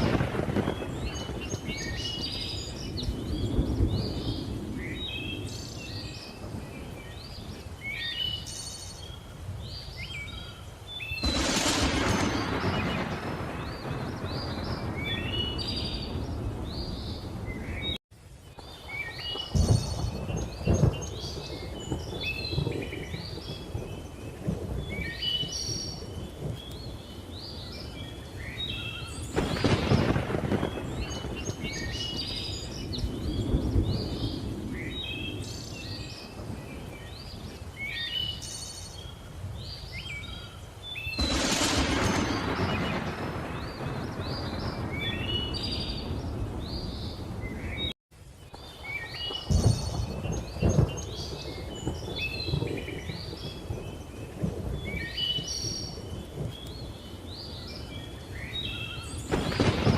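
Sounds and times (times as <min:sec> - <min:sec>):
thunder rumbling: 0:00.0 - 0:09.8, 0:11.1 - 0:40.4, 0:41.1 - 0:48.0, 0:48.6 - 0:59.9.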